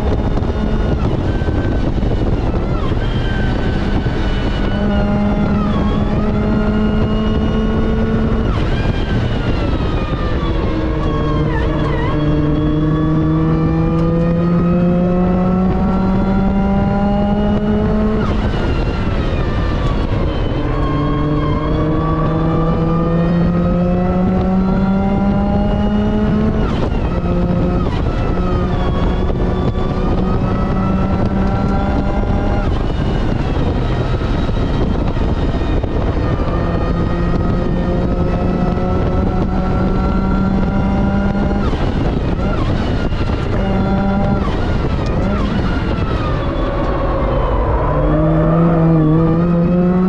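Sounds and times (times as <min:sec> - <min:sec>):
car engine accelerating hard: 0:00.0 - 0:50.0
road and wind noise: 0:00.0 - 0:50.0.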